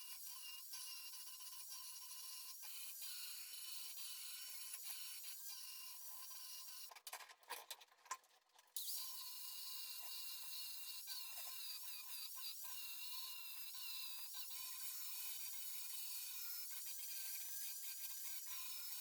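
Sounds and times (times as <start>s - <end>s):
rotary power tool whining: 0.0s - 6.9s, 8.8s - 19.0s.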